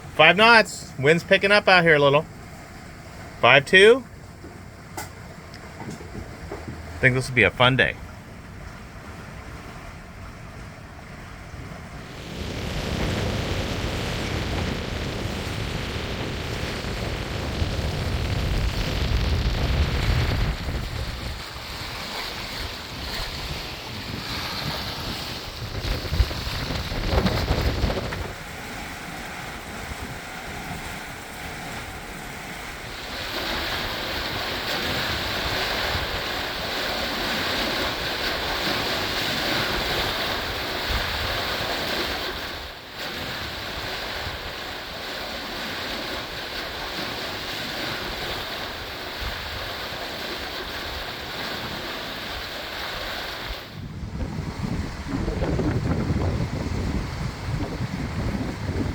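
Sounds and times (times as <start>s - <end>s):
water rushing past hull: 0.0s - 58.9s
wind buffeting microphone: 11.4s - 58.9s.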